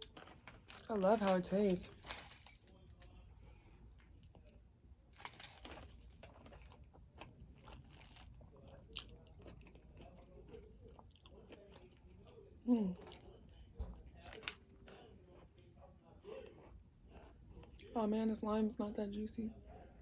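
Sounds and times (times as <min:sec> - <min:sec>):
close-up chewing: 0:00.0 - 0:18.0.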